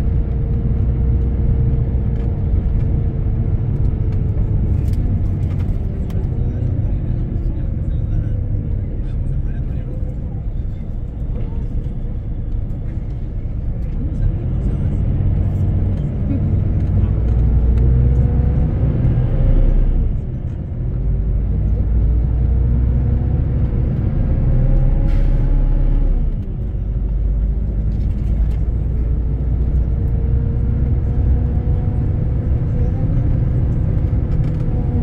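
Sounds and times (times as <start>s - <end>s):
bus diesel engine droning: 0.0s - 35.0s.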